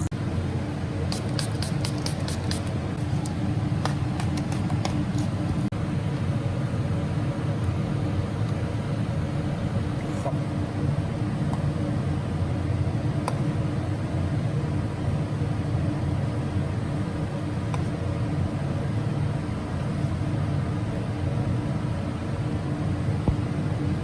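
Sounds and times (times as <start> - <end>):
machine humming and rumbling: 0.0 - 24.0.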